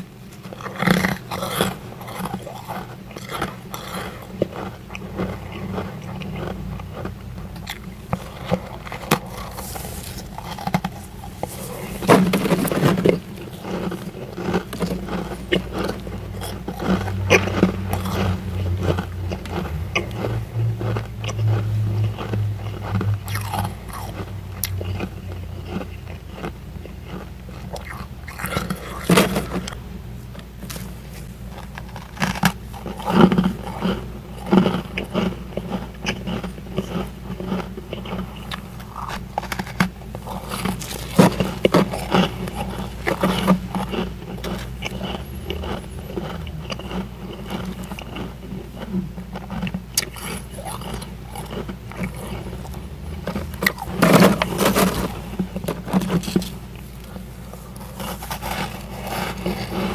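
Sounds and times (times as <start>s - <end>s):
frost being chewed crunching: 0.0s - 59.9s
steady low hum: 0.0s - 59.9s.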